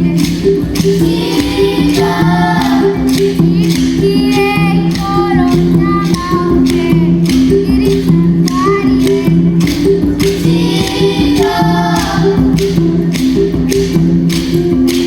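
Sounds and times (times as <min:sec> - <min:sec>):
children singing: 0:00.0 - 0:15.0
mbira plucked notes: 0:00.0 - 0:15.0
rattle beat: 0:00.0 - 0:15.0.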